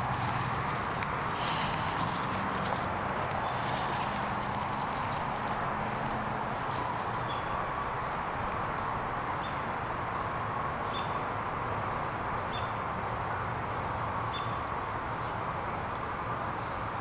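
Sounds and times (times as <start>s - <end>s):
outdoor background rush: 0.0s - 17.0s.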